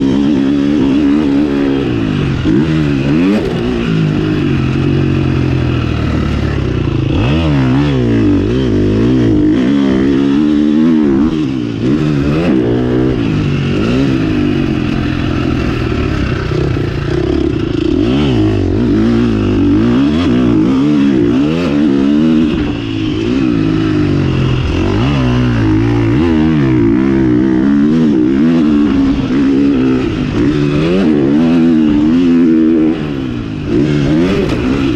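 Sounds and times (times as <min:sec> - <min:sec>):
motocross engine revving: 0:00.0 - 0:34.9.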